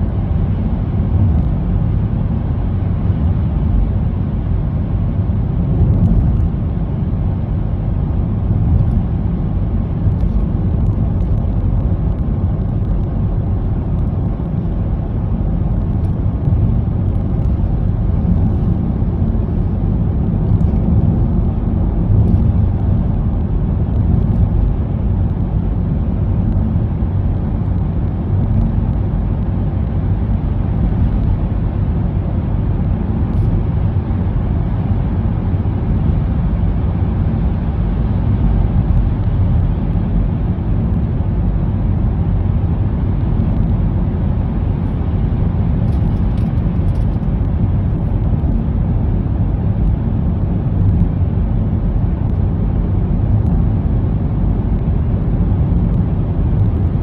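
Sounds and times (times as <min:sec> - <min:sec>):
car interior driving rumble: 0:00.0 - 0:57.0.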